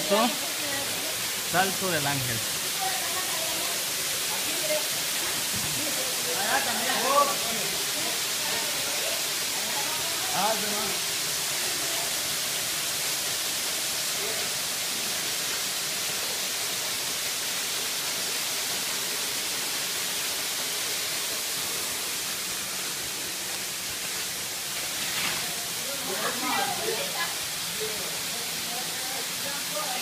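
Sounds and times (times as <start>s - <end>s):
waterfall splashing on rocks: 0.0s - 30.0s.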